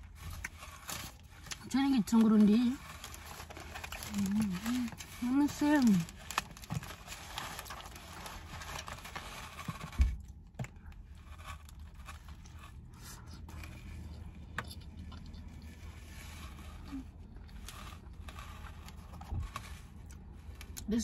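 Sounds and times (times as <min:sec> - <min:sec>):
food wrapper rustling: 0:00.0 - 0:20.8.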